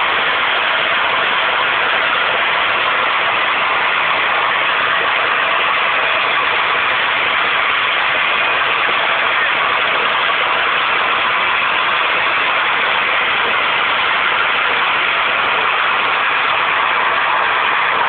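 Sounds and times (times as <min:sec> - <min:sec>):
high-pressure gas rushing: 0:00.0 - 0:18.0.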